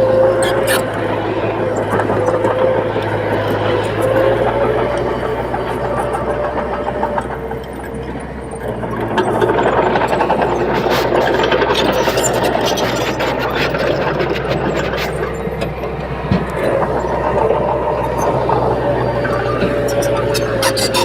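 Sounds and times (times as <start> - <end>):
bulldozer diesel engine running: 0.0 - 21.0
steel tracks clanking: 0.0 - 21.0.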